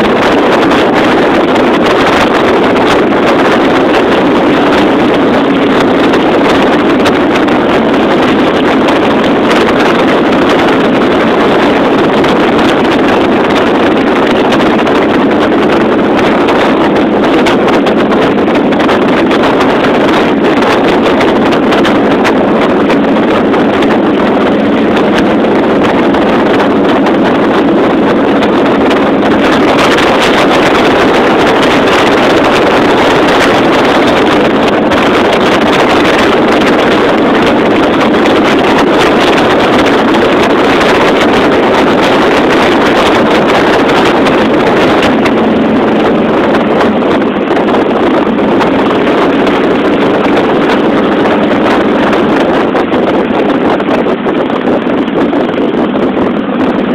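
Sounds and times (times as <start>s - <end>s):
motorcycle engine running: 0.0s - 52.6s
wind rushing over microphone: 0.0s - 56.9s.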